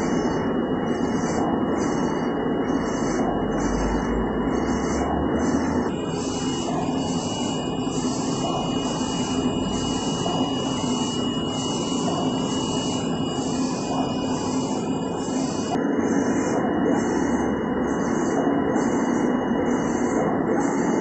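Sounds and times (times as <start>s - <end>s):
machine hum with high whine: 0.0s - 21.0s
print head carriage hissing: 0.0s - 21.0s.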